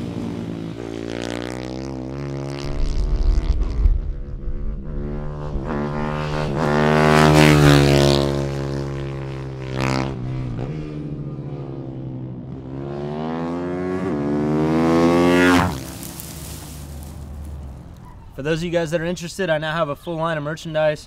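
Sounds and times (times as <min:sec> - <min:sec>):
motorbike engine revving: 0:00.0 - 0:18.1.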